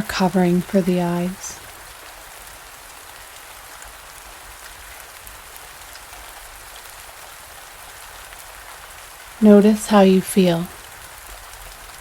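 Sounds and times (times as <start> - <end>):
raindrop patter: 0.0 - 12.0
steady rain hiss: 0.0 - 12.0.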